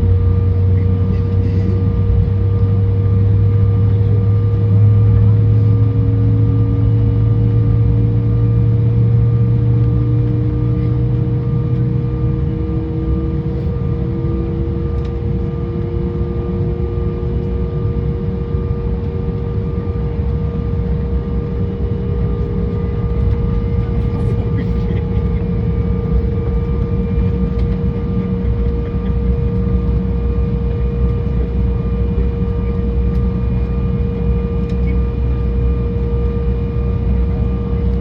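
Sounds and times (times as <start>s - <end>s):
aircraft cabin engine drone: 0.0s - 38.0s
low rumble: 0.0s - 38.0s.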